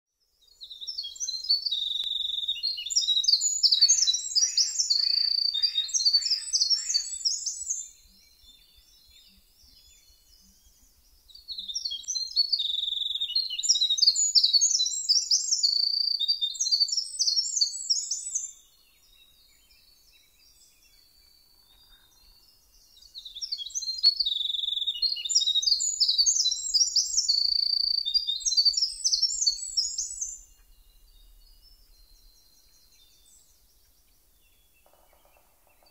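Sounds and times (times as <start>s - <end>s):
songbird singing: 0.1s - 35.9s.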